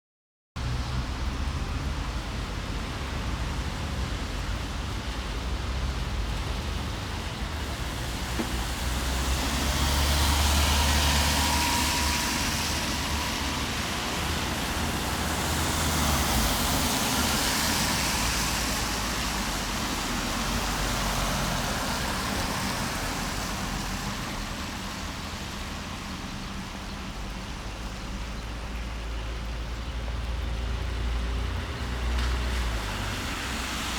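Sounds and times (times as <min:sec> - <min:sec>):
rain hissing on road: 0:00.6 - 0:33.9
vehicles passing on wet road: 0:00.6 - 0:33.9.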